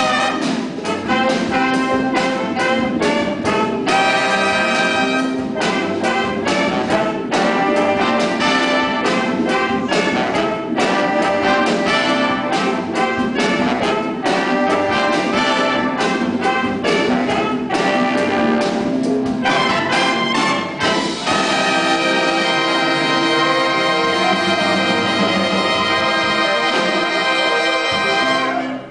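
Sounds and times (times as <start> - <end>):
big band playing: 0.0 - 28.9.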